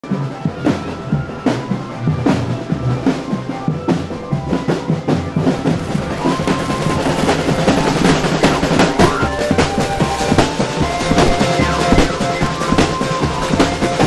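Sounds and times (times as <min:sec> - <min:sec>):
drum band playing: 0:00.0 - 0:14.0
held-note melody: 0:00.2 - 0:14.0.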